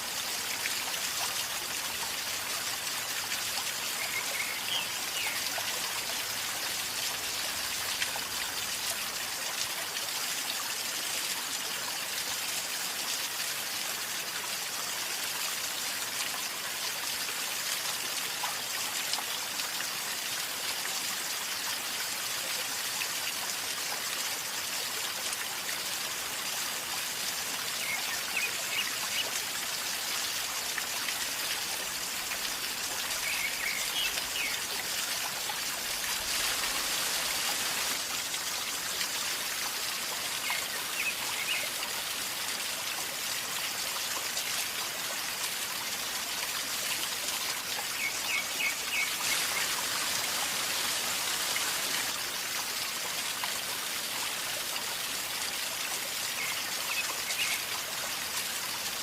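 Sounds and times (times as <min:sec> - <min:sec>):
river water gurgling: 0:00.0 - 0:14.7, 0:21.4 - 0:59.0.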